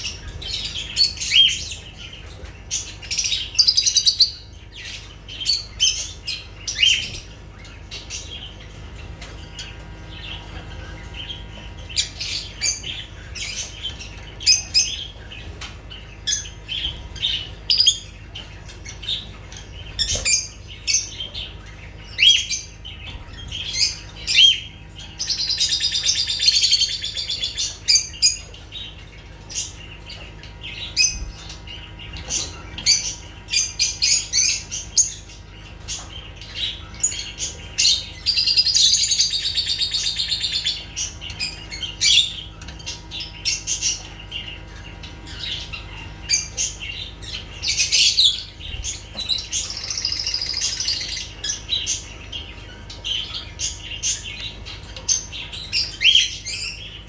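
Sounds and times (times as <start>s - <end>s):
lovebirds chirping and chattering: 0.0s - 57.0s.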